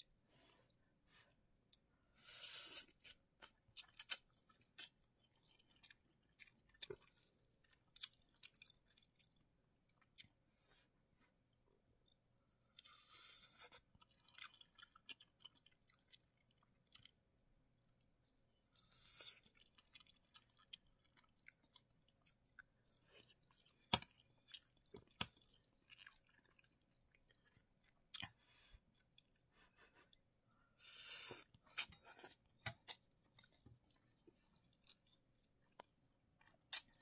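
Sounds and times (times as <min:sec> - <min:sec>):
person chewing: 0:02.4 - 0:10.4, 0:12.5 - 0:17.2, 0:17.8 - 0:37.0.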